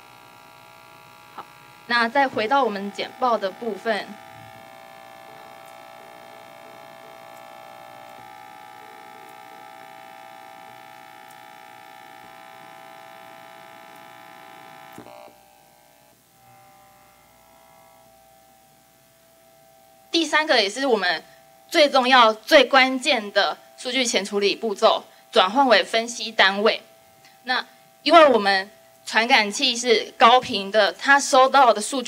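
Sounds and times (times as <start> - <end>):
electrical buzz: 0.0 - 32.0.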